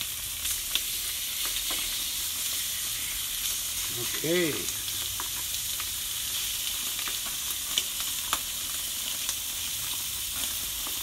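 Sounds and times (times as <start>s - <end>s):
chicken sizzling on a grill: 0.0s - 11.0s.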